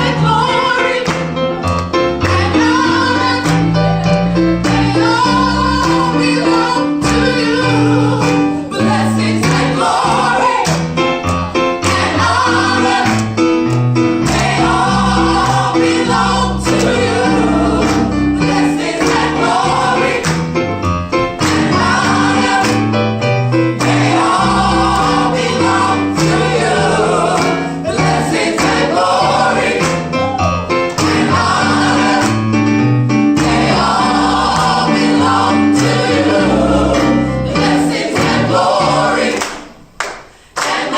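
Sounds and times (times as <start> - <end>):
instrumental accompaniment with bass line: 0.0 - 39.4
gospel choir singing: 0.0 - 40.9.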